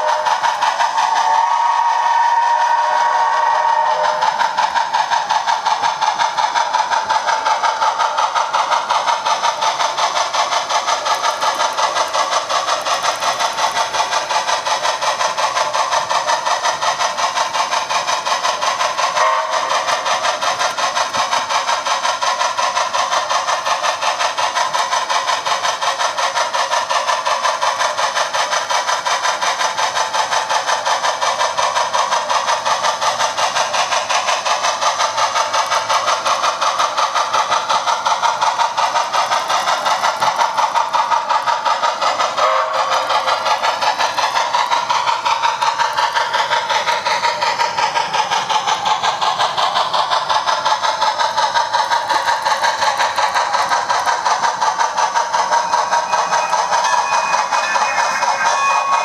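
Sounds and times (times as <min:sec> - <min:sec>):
model locomotive running: 0:00.0 - 0:59.0.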